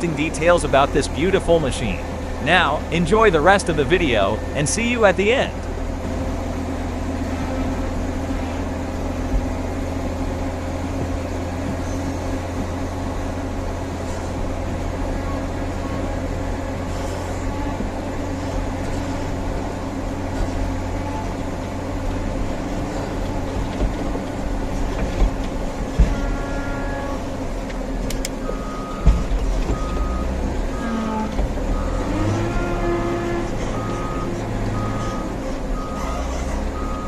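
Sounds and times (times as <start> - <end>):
diesel machinery engine drone: 0.0 - 37.0.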